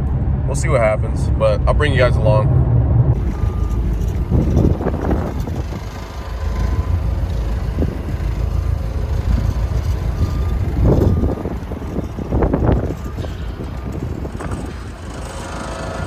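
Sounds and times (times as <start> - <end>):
vehicle engine rumbling: 0.2 - 16.0.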